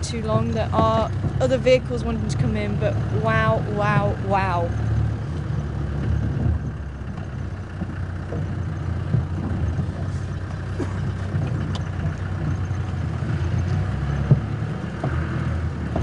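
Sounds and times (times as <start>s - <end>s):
vehicle engine running: 0.0s - 16.0s
vehicle knocks and rattles: 0.0s - 16.0s.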